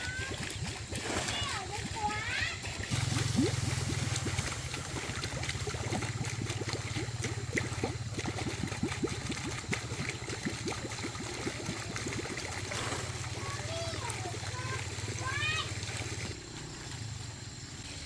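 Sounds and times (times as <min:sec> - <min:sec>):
water splashing and trickling: 0:00.0 - 0:17.8
steady low hum: 0:00.2 - 0:15.0.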